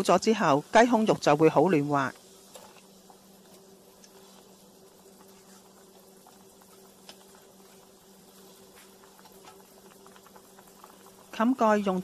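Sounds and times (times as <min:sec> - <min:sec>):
liquid bubbling in a wok: 0:00.0 - 0:12.0
steady low hum: 0:00.0 - 0:12.0.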